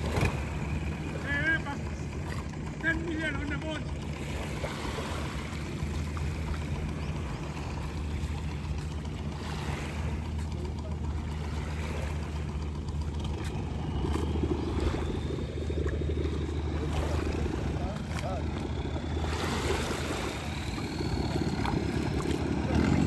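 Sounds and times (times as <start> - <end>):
boat engine droning: 0.0 - 23.0
rushing water: 0.0 - 23.0.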